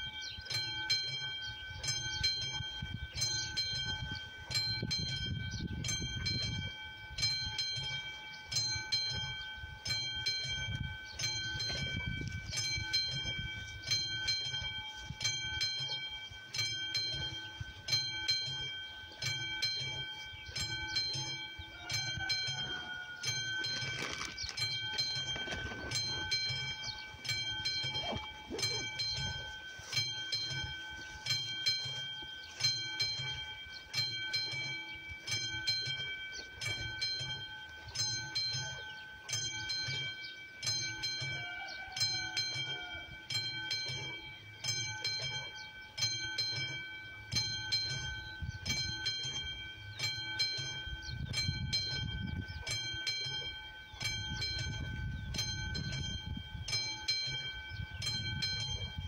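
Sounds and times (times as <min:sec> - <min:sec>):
level crossing warning bell: 0:00.0 - 0:59.0.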